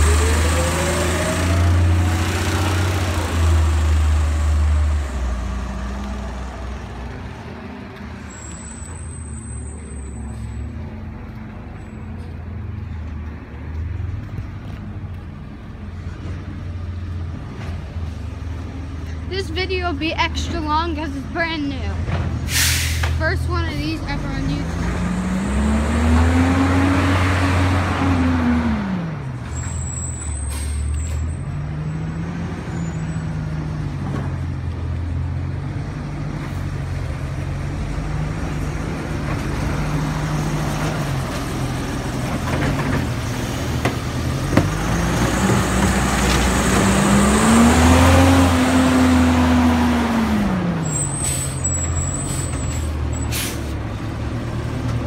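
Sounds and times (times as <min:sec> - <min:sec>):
garbage truck engine idling and revving: 0:00.0 - 0:55.0.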